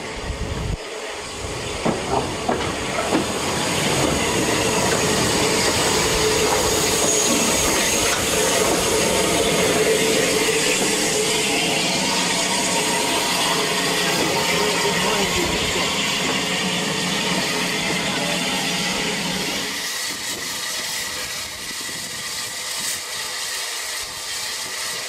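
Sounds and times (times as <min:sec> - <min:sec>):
train rushing past: 0:00.0 - 0:25.0.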